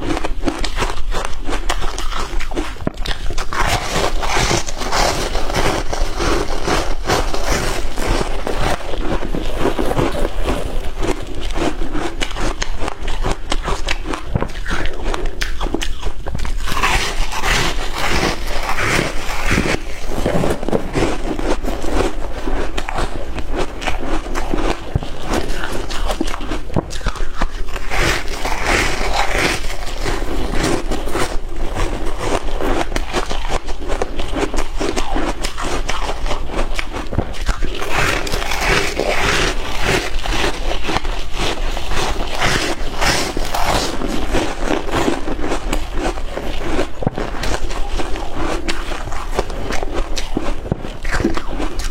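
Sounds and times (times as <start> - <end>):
chewing crunchy ice: 0.0 - 51.9.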